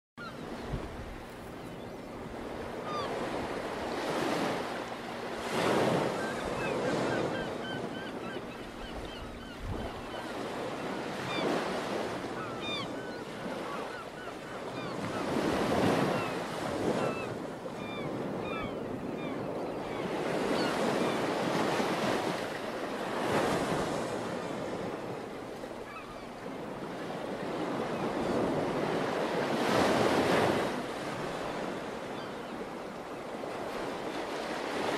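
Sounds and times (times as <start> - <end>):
waves breaking and washing in: 0.2 - 34.9.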